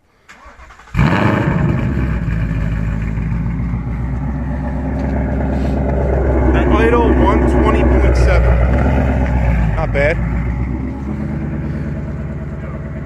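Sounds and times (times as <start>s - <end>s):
car engine cranking: 0.2s - 13.0s
engine starting and idling: 0.2s - 13.0s.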